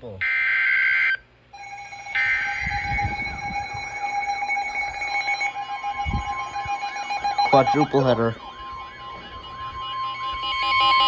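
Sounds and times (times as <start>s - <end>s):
steady alert tones: 1.6s - 11.0s
warbling alert sweep: 1.6s - 11.0s.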